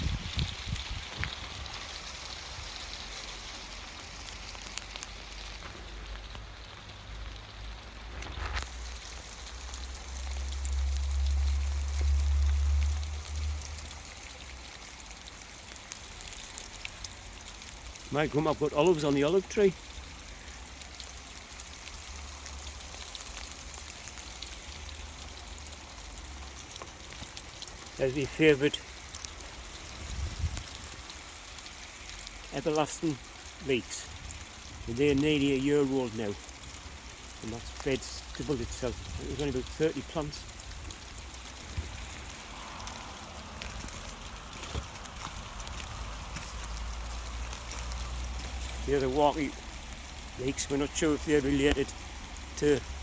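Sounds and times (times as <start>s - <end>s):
ice pellets ticking: 0.0s - 53.0s
rain and sleet falling: 0.0s - 53.0s.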